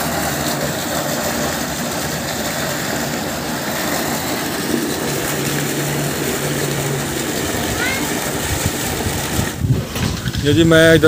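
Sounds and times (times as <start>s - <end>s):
pump engine running: 0.0s - 11.0s
water gushing into pool: 0.0s - 11.0s.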